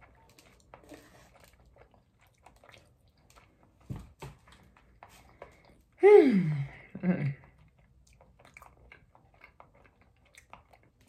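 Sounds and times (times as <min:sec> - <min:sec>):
faint chewing: 0:00.0 - 0:06.0, 0:07.1 - 0:11.0.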